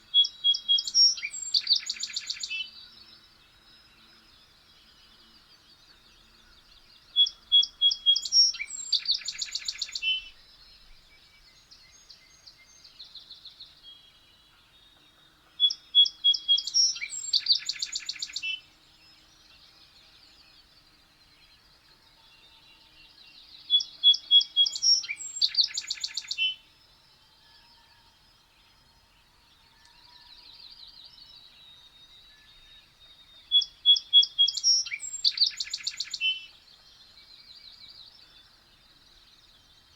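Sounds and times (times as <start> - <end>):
faint bird chirps: 0.0 - 39.9
songbird singing trill: 0.0 - 39.9.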